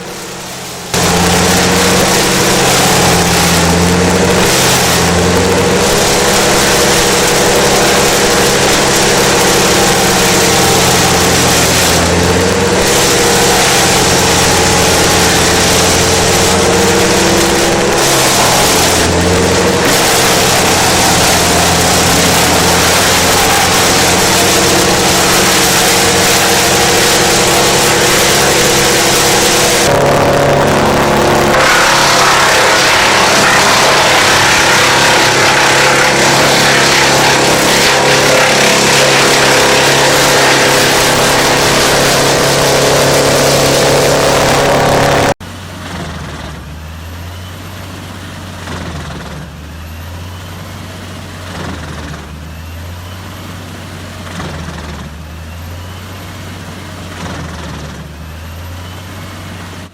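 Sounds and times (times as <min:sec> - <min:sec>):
low engine hum: 0:00.0 - 0:59.9
wood chipper running: 0:00.0 - 0:59.9.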